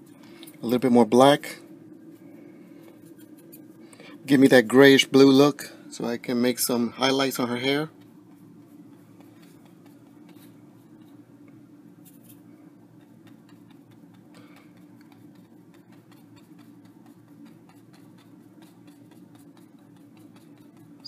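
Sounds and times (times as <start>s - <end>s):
low steady hum: 0.0s - 21.0s
brush ticking and scratching on canvas: 0.6s - 5.4s, 6.7s - 21.0s.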